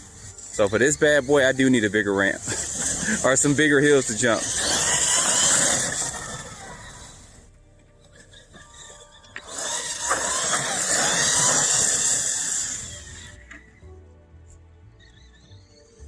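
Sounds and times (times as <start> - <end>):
tyres tearing over dirt: 0.0 - 7.5, 8.1 - 13.7
rc truck motor whine: 0.0 - 13.8.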